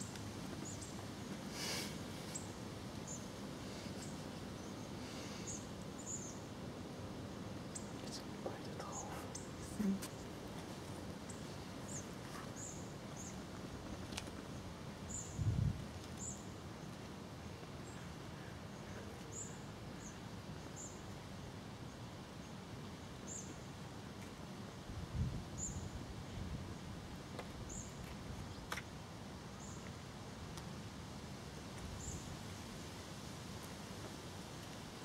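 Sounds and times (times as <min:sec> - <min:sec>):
outdoor background noise: 0:00.0 - 0:35.0.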